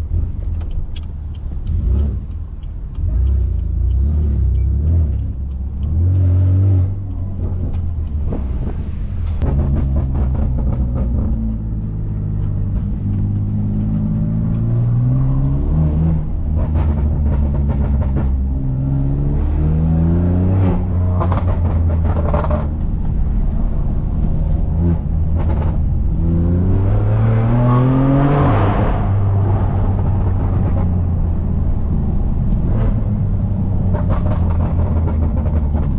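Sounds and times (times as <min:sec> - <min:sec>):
exhaust crackles and pops: 0:00.0 - 0:15.6, 0:16.2 - 0:18.9, 0:20.6 - 0:35.9
loud car engine revving: 0:00.0 - 0:35.9.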